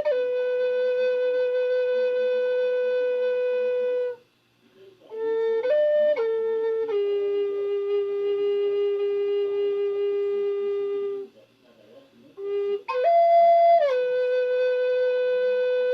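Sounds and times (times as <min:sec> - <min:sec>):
flute playing held notes: 0:00.0 - 0:04.3, 0:05.0 - 0:11.3, 0:12.4 - 0:15.9.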